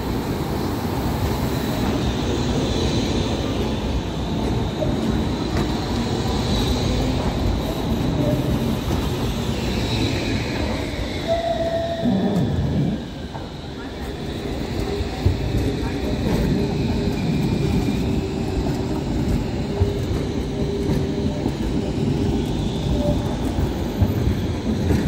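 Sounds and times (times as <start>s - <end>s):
tram wheels rumbling on rails: 0.0s - 25.0s.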